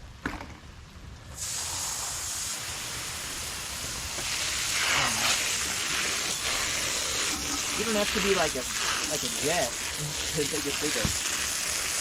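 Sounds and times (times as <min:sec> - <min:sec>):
hose nozzle spraying water: 0:01.4 - 0:12.0.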